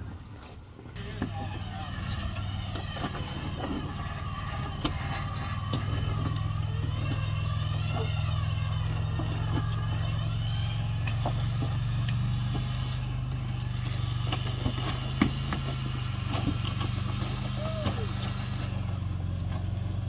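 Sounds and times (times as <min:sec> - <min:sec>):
truck engine running under load: 0:00.0 - 0:20.0.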